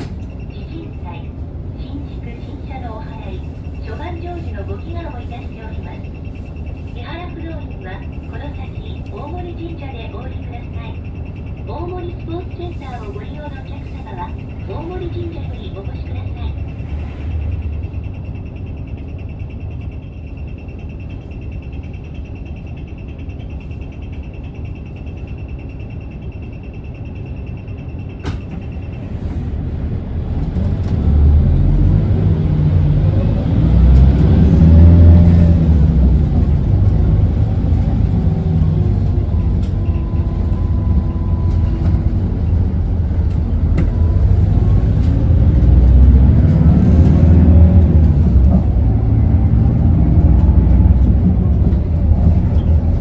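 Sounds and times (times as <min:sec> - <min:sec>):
bus diesel engine idling and revving: 0:00.0 - 0:53.0.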